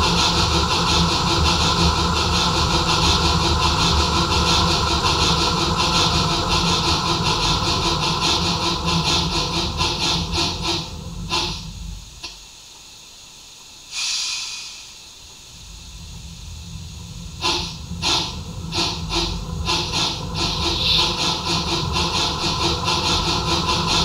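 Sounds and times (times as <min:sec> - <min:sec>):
model steam locomotive chuffs: 0:00.0 - 0:12.7, 0:13.6 - 0:24.0
steam hiss: 0:00.0 - 0:24.0.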